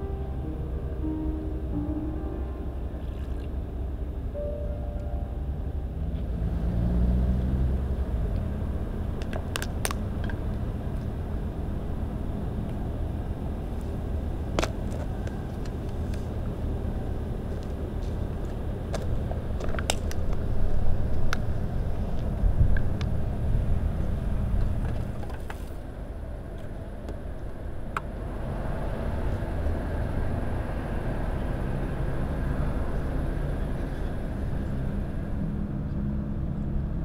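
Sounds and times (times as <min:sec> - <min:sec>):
distant traffic rumble: 0:00.0 - 0:37.0.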